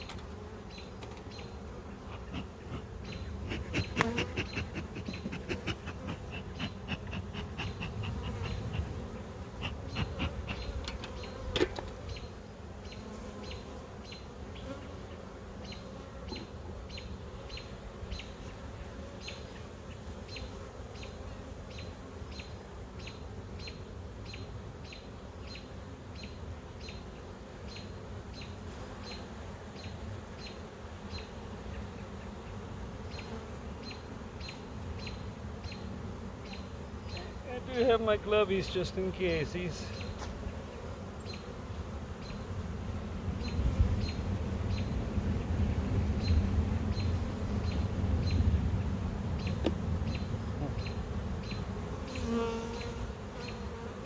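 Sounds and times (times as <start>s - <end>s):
bees buzzing: 0.0s - 54.0s.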